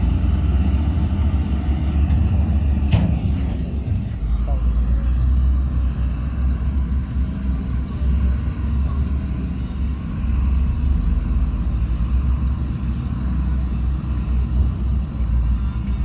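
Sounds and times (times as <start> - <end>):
diesel construction machinery rumbling: 0.0 - 16.0.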